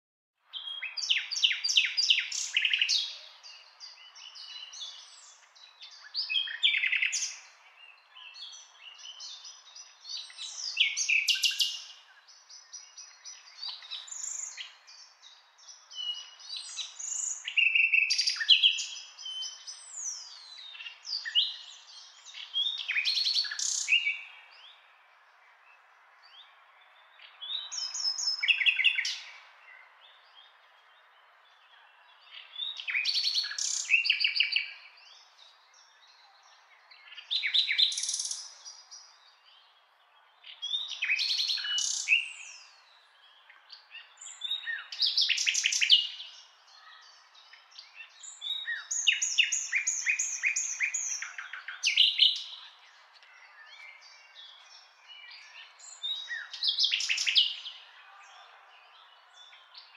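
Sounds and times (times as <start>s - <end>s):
nightingale singing: 0.4s - 59.9s.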